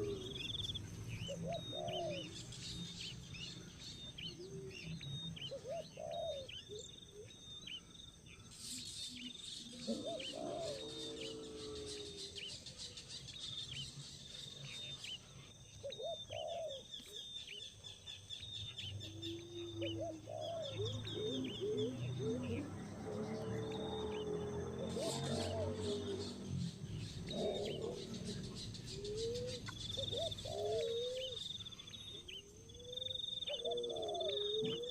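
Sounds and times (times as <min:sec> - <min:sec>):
lower longer bird calls: 0:00.0 - 0:34.9
small birds chirping: 0:00.0 - 0:34.9.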